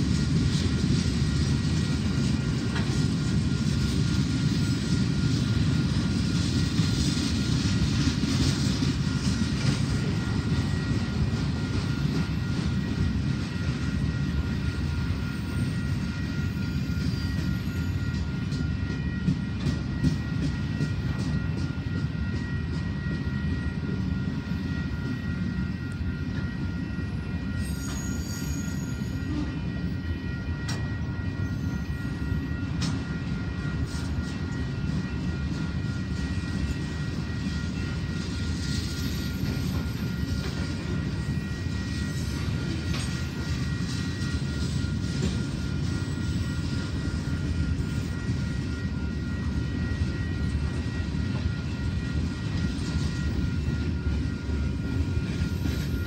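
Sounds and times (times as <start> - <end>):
faint high whine: 0.0 - 56.0
freight train cars rumbling past: 0.0 - 56.0.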